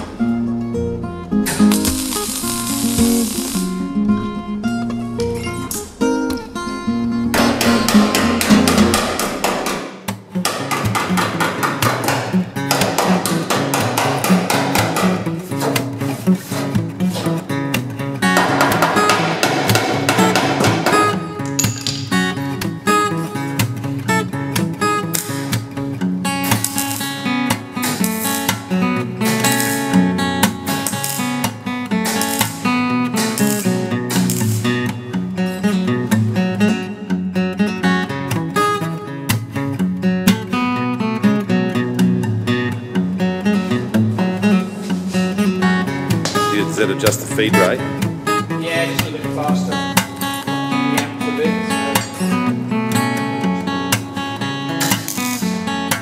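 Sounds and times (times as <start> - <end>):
acoustic guitar music: 0.0 - 56.0.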